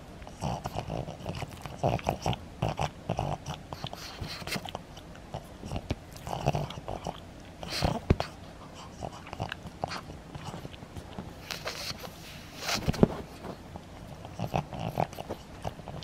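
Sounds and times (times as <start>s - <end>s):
dog chewing plush toy: 0.2s - 12.1s, 12.7s - 16.0s.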